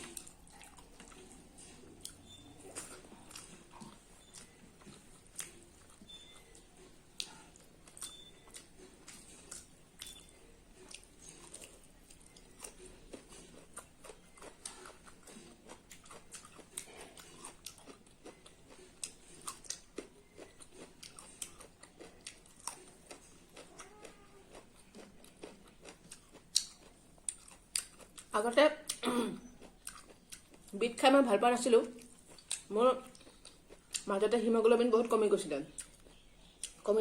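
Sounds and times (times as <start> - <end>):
soft chewing with mouth clicks: 0.0 - 37.0.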